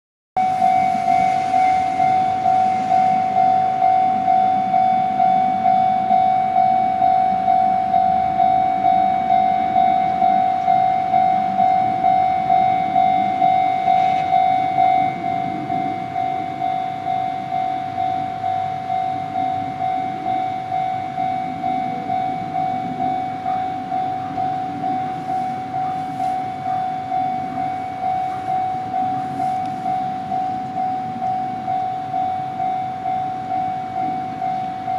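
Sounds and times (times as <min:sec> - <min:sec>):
level crossing alarm clanging: 0:00.4 - 0:34.9.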